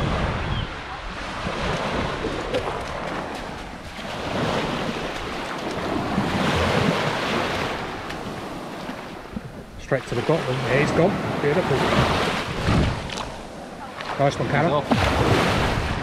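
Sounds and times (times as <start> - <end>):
small waves washing over shingle: 0.8 - 16.0.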